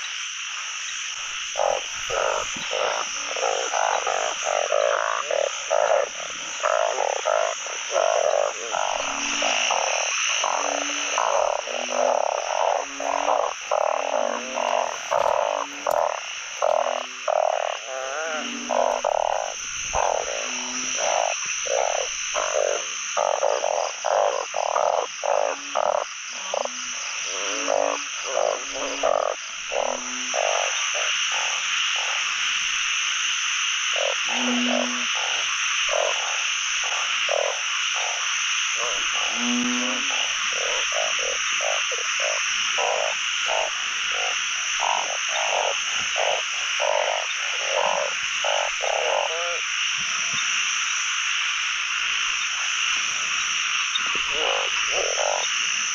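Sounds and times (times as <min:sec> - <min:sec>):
frogs croaking in chorus: 0:00.0 - 0:55.9.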